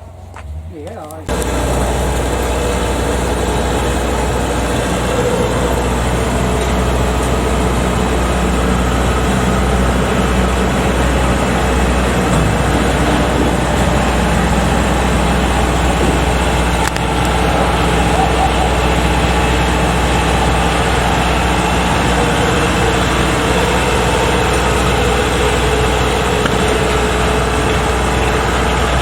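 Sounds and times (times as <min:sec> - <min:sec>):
large engine droning: 0:00.0 - 0:29.0.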